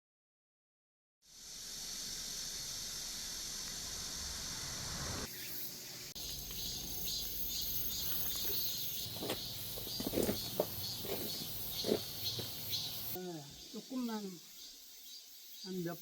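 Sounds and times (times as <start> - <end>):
insects high hiss: 1.2 - 16.0
insects pulsing high chirps: 1.3 - 16.0.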